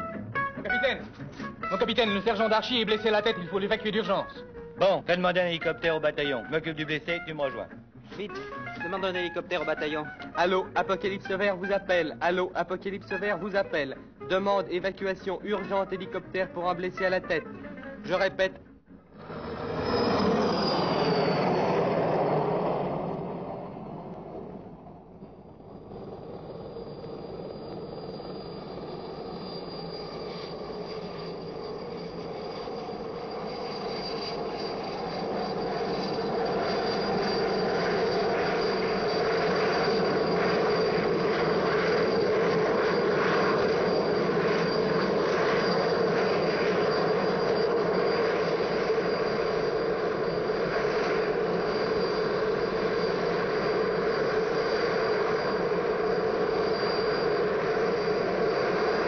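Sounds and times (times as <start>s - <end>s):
helicopter engine and rotor: 0.0s - 17.6s, 19.1s - 59.0s.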